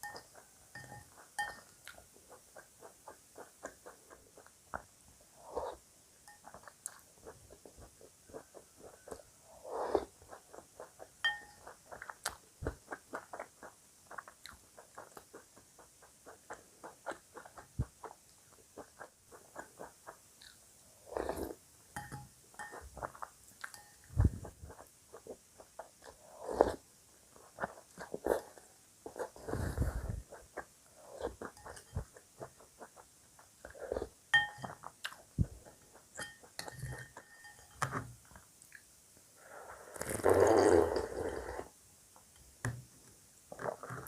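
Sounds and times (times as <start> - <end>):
chewing crunchy cereal: 0.0 - 37.2.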